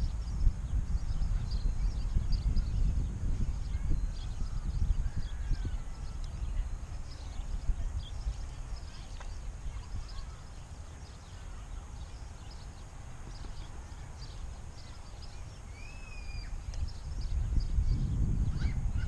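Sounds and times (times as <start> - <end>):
faint bird chirps: 0.0 - 19.0
wind buffeting microphone: 0.0 - 19.0
long pitched bird call: 3.6 - 19.0.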